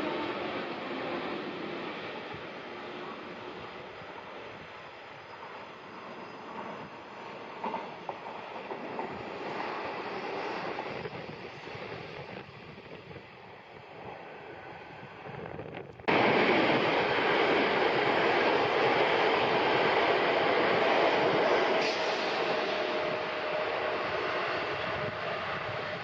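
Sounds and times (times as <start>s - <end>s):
electric train rushing past: 0.0s - 26.0s.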